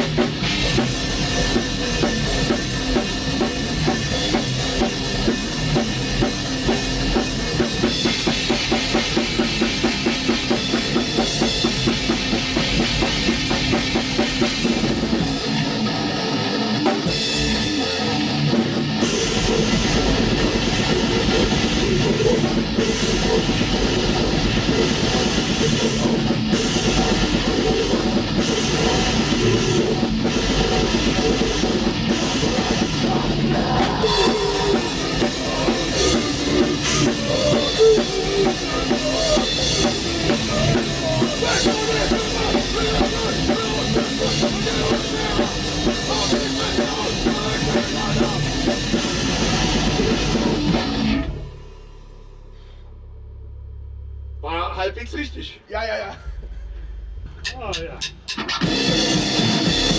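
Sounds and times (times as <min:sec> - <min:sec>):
drum kit pounding fast beats: 0:00.0 - 0:52.6, 0:56.4 - 0:59.9
black metal band playing: 0:00.0 - 0:53.0, 0:57.2 - 0:59.9.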